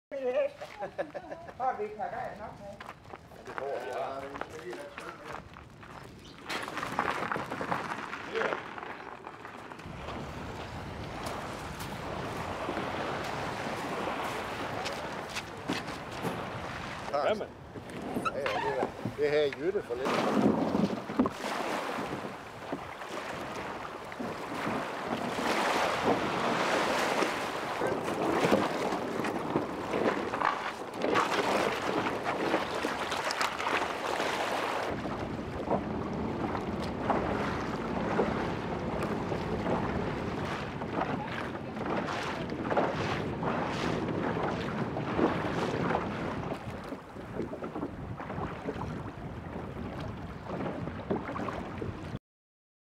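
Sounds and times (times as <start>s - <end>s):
water lapping and splashing: 0.2s - 52.2s
wind buffeting microphone: 1.8s - 33.2s, 34.4s - 52.2s.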